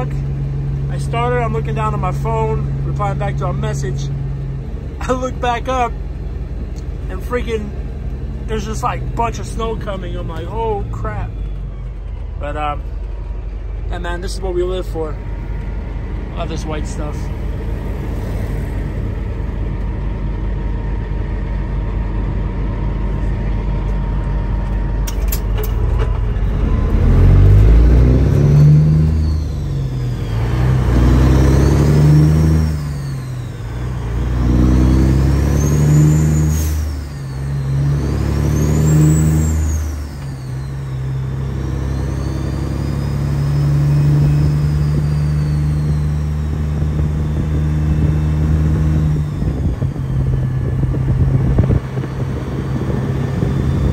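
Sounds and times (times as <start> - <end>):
diesel truck engine accelerating: 0.0 - 53.9.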